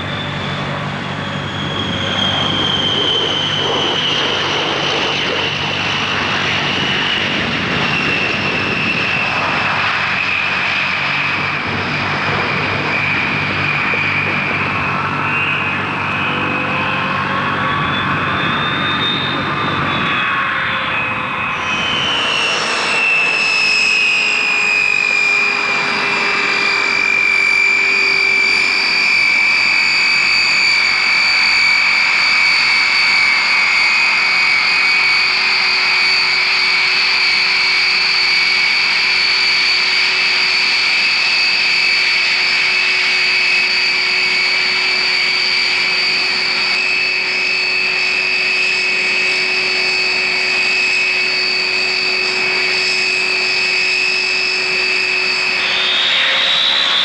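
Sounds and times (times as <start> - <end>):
propeller and engine noise: 0.0 - 57.0
turboprop engine whine: 0.0 - 57.0.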